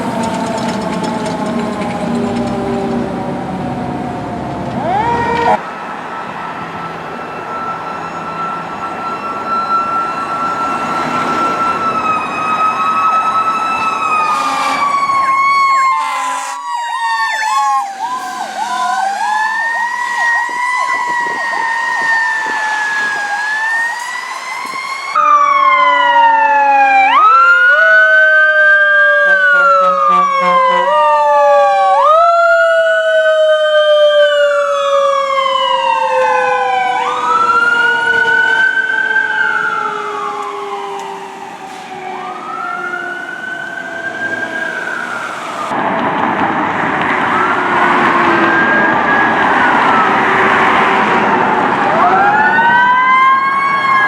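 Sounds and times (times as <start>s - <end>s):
steady falling siren tone: 0.0s - 46.0s, 46.9s - 54.0s
fire truck sirens wailing: 0.0s - 54.0s
short siren blasts: 0.6s - 45.8s.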